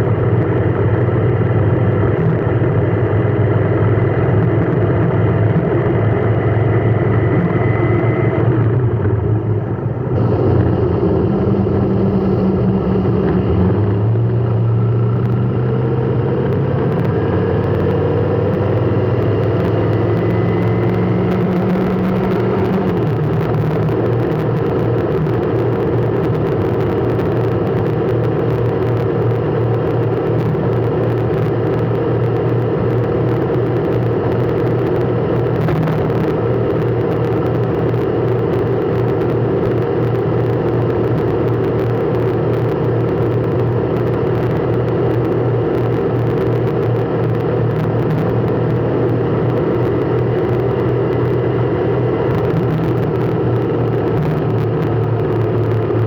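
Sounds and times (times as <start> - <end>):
car engine drone: 0.0 - 56.0
road noise: 0.0 - 56.0.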